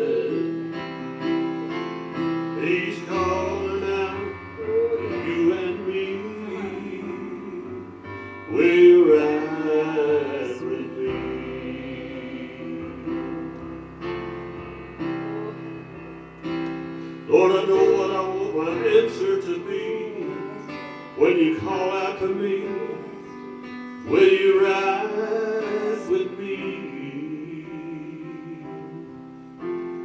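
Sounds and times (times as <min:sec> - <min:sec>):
keyboard chords: 0:00.0 - 0:30.0
person singing wordless notes: 0:00.0 - 0:30.0.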